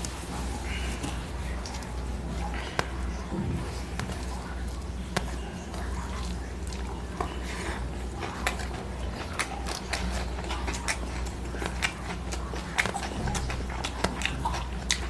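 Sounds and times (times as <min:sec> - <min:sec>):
chewing and wet mouth smacks: 0:00.0 - 0:15.0
low steady hum: 0:00.0 - 0:15.0.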